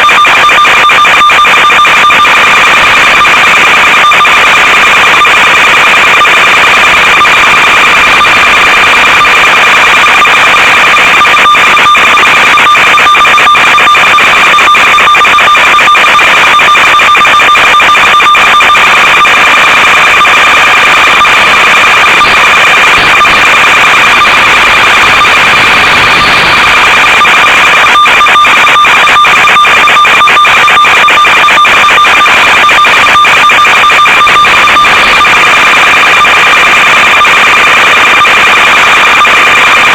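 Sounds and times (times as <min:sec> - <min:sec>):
crackling static: 0:00.0 - 0:39.9
electronic buzz: 0:00.0 - 0:39.9.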